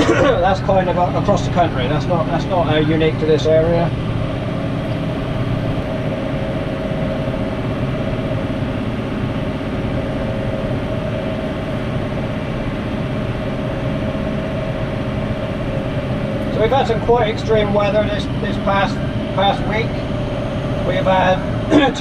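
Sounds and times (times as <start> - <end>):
constant whine: 0.0 - 22.0.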